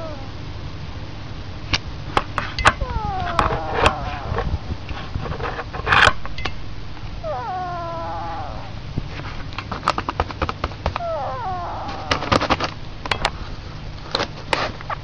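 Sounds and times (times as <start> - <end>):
noisy rustle: 1.3 - 15.0.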